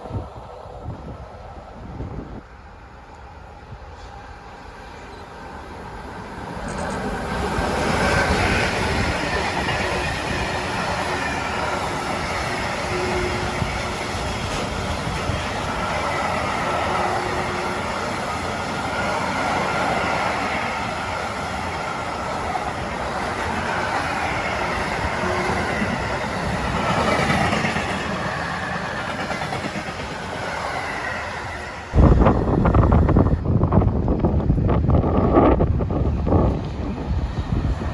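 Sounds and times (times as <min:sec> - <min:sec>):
train passing close by: 0:00.0 - 0:37.9.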